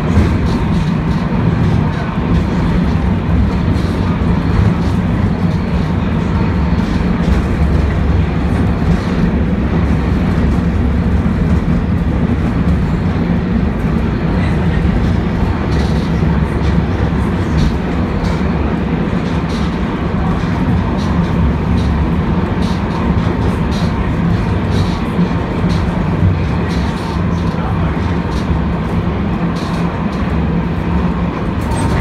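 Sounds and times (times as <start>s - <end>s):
tram rumbling in motion: 0.0s - 32.0s.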